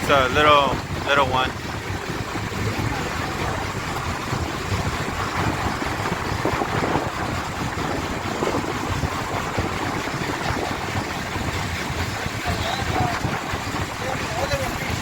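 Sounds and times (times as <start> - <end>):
boat engine running: 0.0 - 15.0
continuous rushing noise: 0.0 - 15.0.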